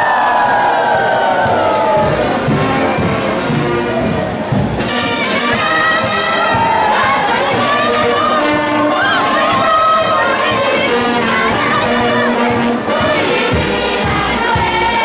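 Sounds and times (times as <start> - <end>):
crowd cheering: 0.0 - 12.3
brass band playing: 0.0 - 15.0.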